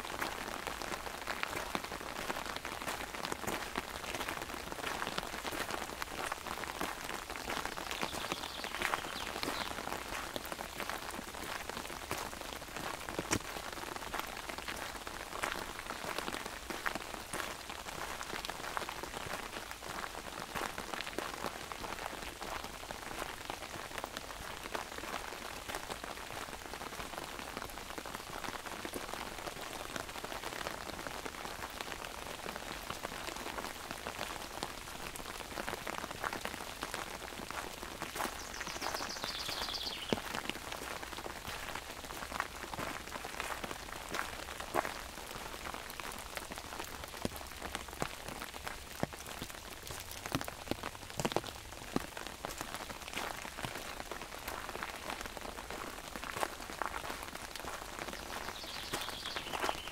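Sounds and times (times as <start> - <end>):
rain falling on an umbrella: 0.0 - 59.9.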